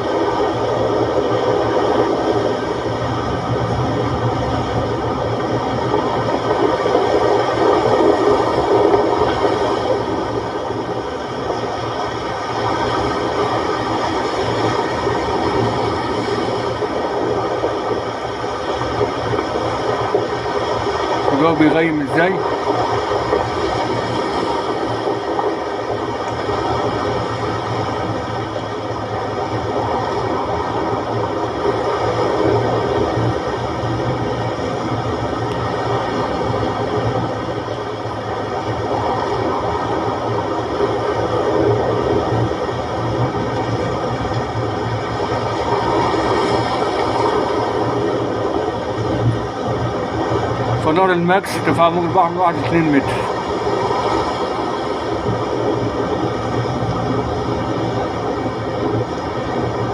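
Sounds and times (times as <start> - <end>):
sea waves breaking: 0.0 - 59.9
wind: 0.0 - 59.9.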